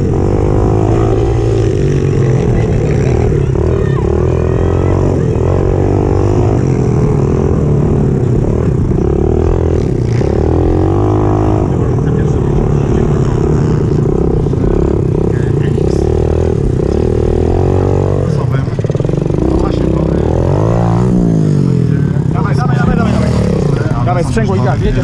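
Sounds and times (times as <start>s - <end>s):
small motorbike engine revving: 0.0s - 22.2s.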